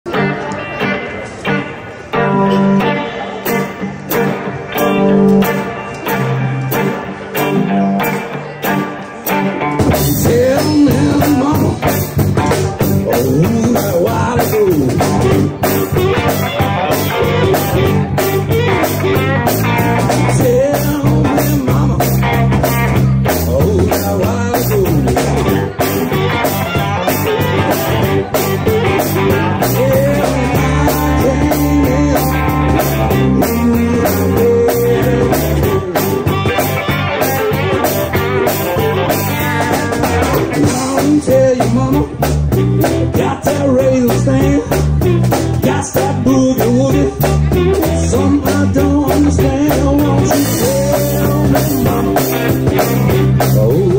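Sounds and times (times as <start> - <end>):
bass: 0.0 - 53.9
blues guitar with bent notes: 0.0 - 53.9
drums beat: 9.3 - 53.9.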